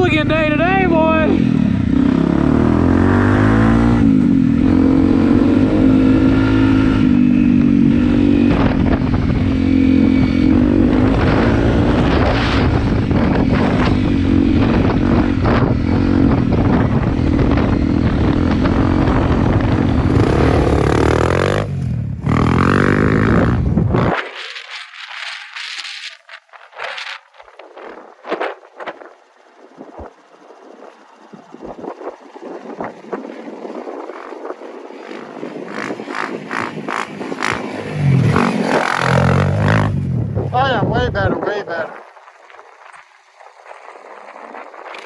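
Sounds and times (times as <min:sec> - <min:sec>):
wind rush: 0:00.0 - 0:25.5, 0:26.4 - 0:45.0
motorcycle engine revving: 0:00.0 - 0:26.0, 0:29.1 - 0:41.4.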